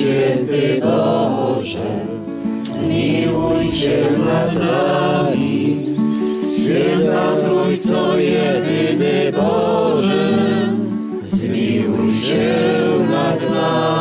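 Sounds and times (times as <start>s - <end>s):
group singing in unison: 0.0s - 14.0s
guitar accompaniment: 0.0s - 14.0s.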